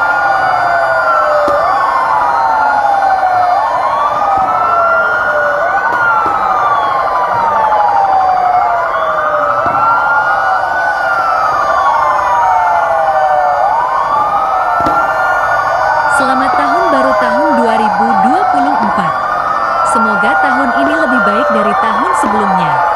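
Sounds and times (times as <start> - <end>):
fire engine sirens wailing: 0.0 - 22.9.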